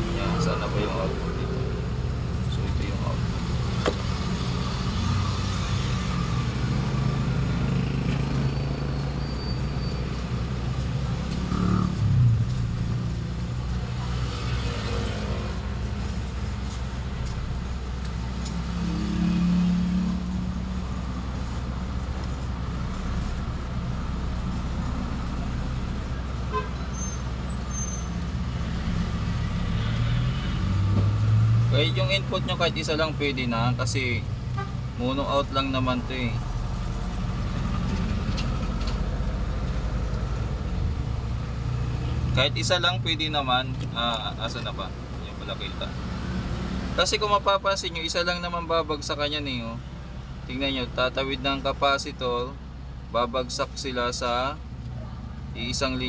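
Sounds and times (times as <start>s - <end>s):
low rumble of traffic: 0.0s - 56.0s.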